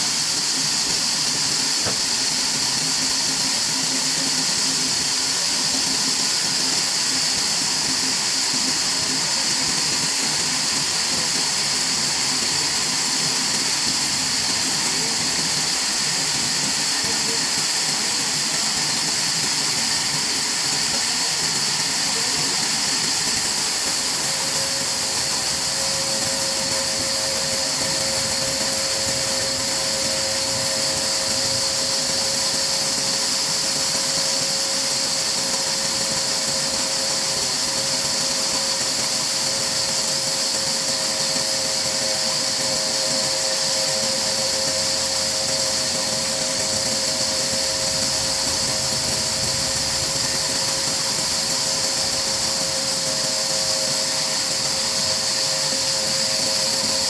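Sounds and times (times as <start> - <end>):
machine running with hiss and whine: 0.0 - 57.0.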